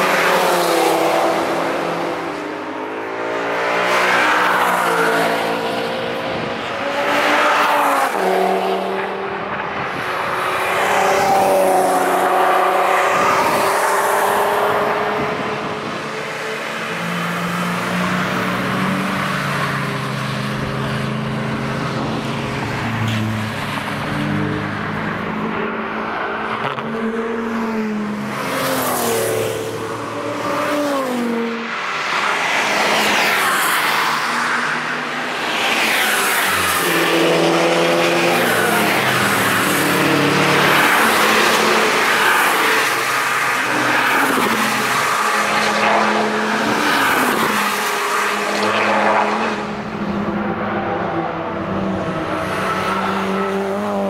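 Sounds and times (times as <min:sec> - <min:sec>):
race cars driving past: 0:00.0 - 0:54.0.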